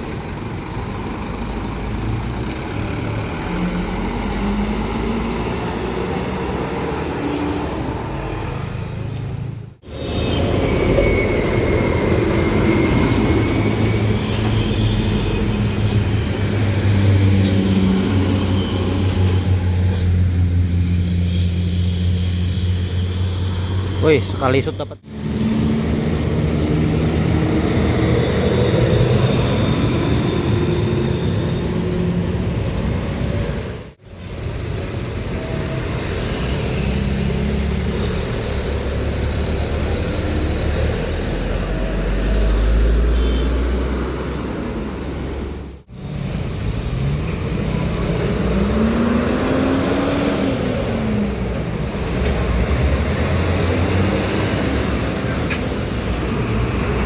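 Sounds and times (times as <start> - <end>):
diesel trucks passing: 0.0 - 57.0.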